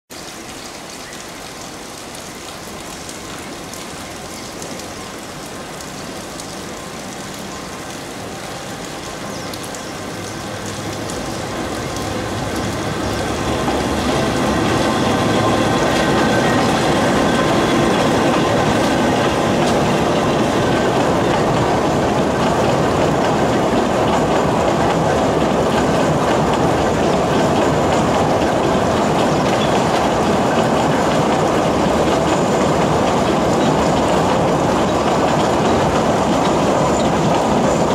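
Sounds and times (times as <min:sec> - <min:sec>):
train running past: 0:03.1 - 0:37.9
wheels clattering on track: 0:07.0 - 0:37.9.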